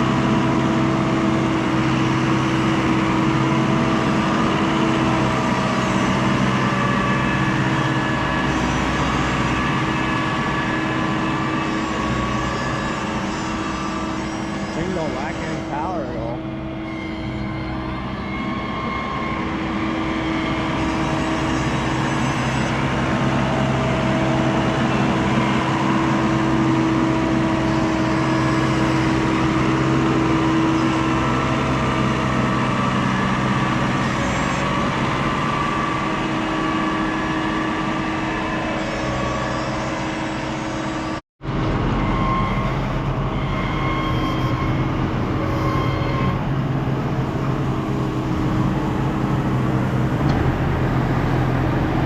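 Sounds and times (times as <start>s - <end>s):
harvest machinery engine drone: 0.0s - 52.0s.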